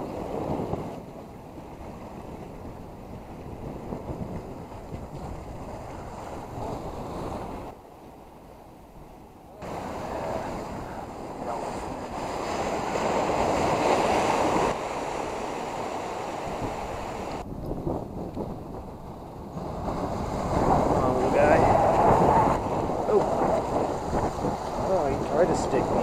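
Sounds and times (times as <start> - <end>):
wind on the microphone: 0.0 - 7.8, 8.4 - 26.0
surf washing over boulders: 0.0 - 8.1, 8.8 - 26.0.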